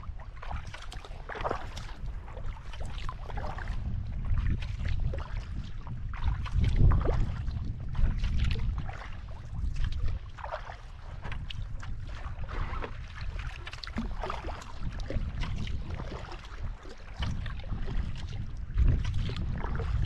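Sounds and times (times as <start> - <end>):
kayak paddle dipping into water: 0.0 - 20.0
wind rumble on microphone: 0.0 - 20.0
water splashing: 0.3 - 20.0.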